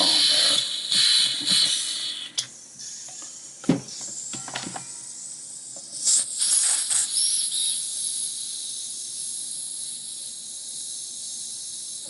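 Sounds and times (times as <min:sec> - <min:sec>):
butane hissing from can: 0:00.0 - 0:03.1, 0:05.0 - 0:12.0.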